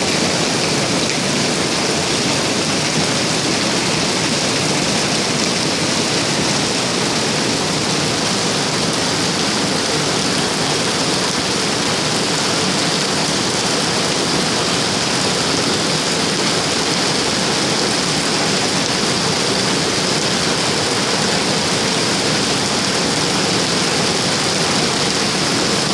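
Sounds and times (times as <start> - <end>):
rain falling: 0.0 - 25.9.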